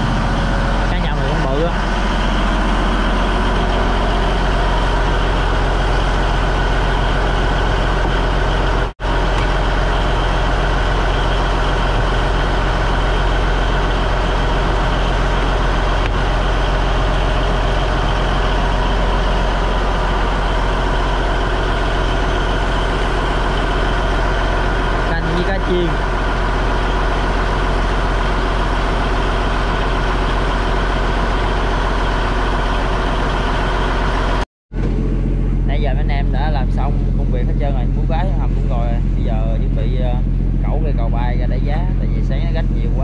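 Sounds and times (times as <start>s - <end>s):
boat diesel engine droning: 0.0s - 43.0s.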